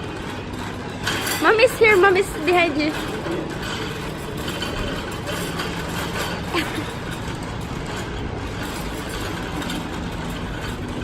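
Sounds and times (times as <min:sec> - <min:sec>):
restaurant hubbub: 0:00.0 - 0:11.0.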